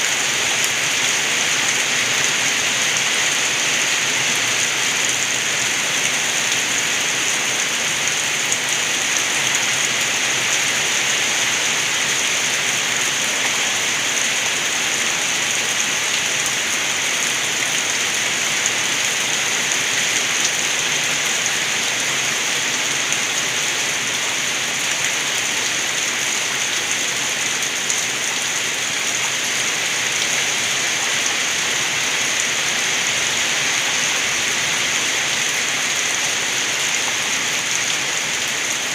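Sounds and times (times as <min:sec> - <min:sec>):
rain falling: 0:00.0 - 0:38.9
rainwater gurgling: 0:00.0 - 0:38.9.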